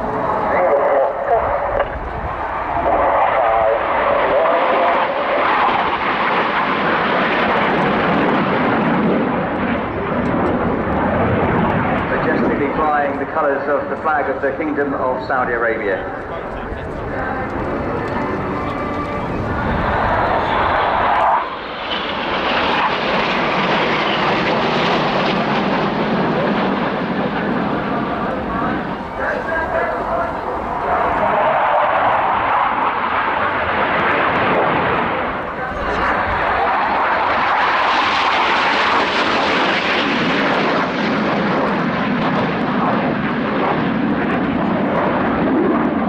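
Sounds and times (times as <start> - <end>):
jets flying by: 0.0 - 46.0.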